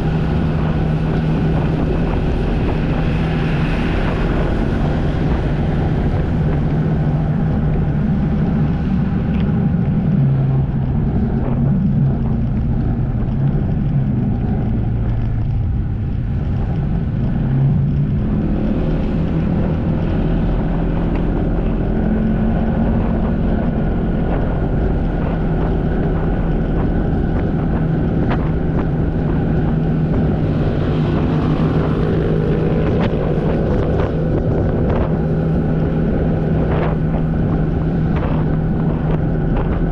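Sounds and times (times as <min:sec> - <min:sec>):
jet ski engine running: 0:00.0 - 0:39.9
wind buffeting microphone: 0:00.0 - 0:39.9.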